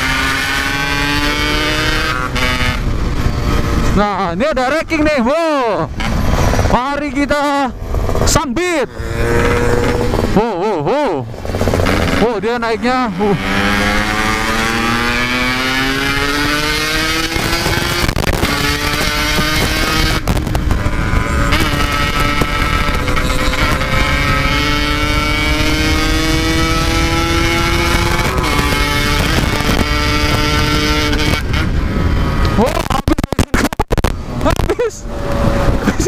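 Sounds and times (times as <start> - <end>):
two-stroke motorcycle engine accelerating: 0.0 - 4.3, 5.6 - 36.0
low wind rumble: 0.0 - 36.0.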